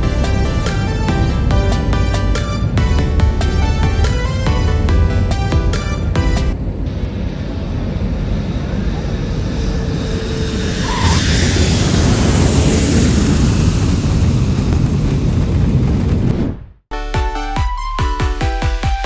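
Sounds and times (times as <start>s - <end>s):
moving vehicle rumble: 0.0s - 16.6s.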